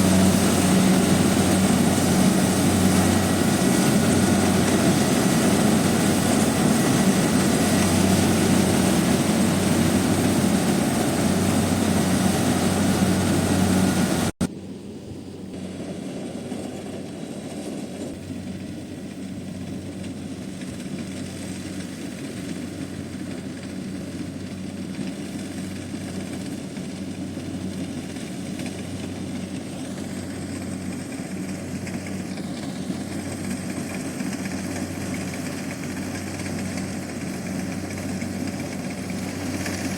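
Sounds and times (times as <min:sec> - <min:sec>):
combine harvester diesel engine running: 0:00.0 - 0:14.5, 0:15.5 - 0:39.9.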